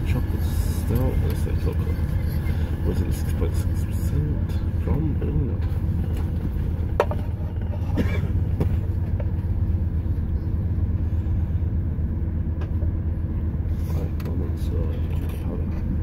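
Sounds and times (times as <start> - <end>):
train rumbling inside carriage: 0.0 - 16.0.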